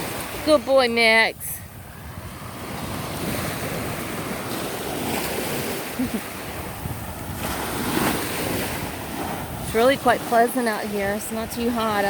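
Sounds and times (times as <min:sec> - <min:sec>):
ocean surf washing on beach: 0:00.0 - 0:12.0
wind buffeting microphone: 0:00.0 - 0:12.0.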